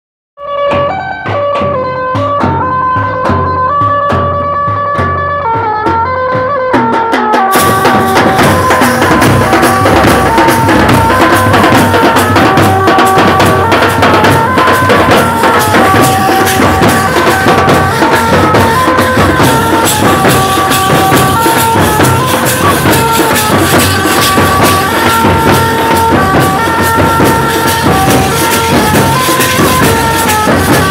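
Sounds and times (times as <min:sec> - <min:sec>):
melody of held notes: 0:00.4 - 0:30.9
fast drumming on barrel drums: 0:00.6 - 0:30.9.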